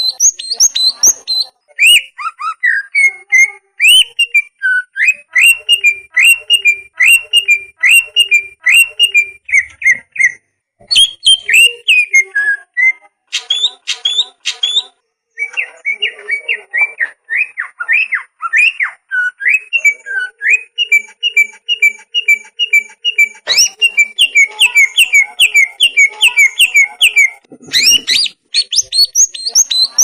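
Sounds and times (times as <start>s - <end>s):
bird whistling song: 0.0s - 30.0s.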